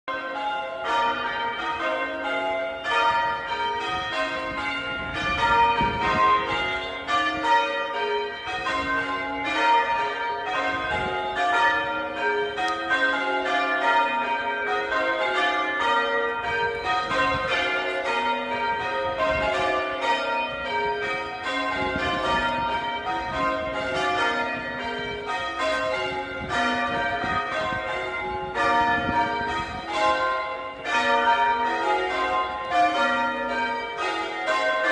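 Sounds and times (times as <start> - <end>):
church bells change ringing: 0.1 - 34.9.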